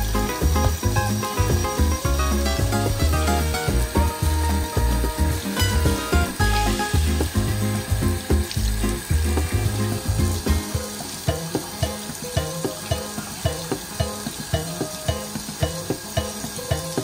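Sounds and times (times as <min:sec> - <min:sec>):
music with steady beat: 0:00.0 - 0:17.0
water running from tap: 0:00.0 - 0:17.0.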